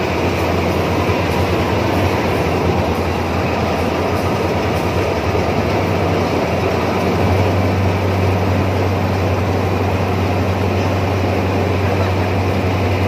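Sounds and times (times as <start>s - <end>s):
diesel engine running: 0.0s - 13.0s
mechanical clatter of tracks: 0.0s - 13.0s.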